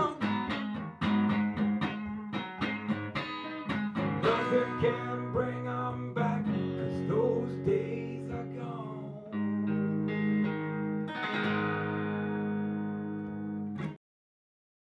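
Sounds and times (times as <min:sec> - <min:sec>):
guitar picked notes and chords: 0:00.0 - 0:14.0.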